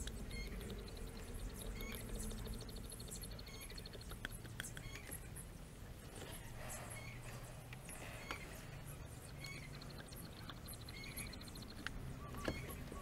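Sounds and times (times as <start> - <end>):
bird trill: 0.0 - 5.5, 6.4 - 13.0
faint bird chirps: 0.0 - 13.0
low steady hum: 0.0 - 13.0.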